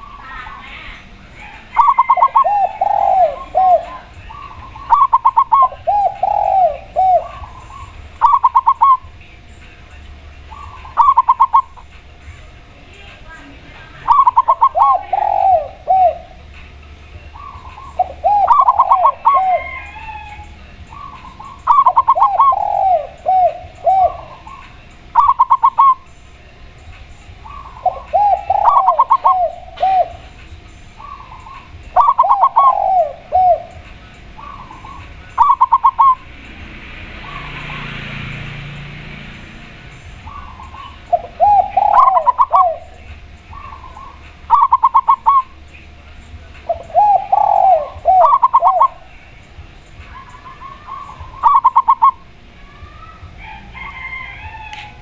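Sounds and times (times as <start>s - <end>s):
soft rushing noise: 0.0s - 44.5s
doves cooing: 0.0s - 55.0s.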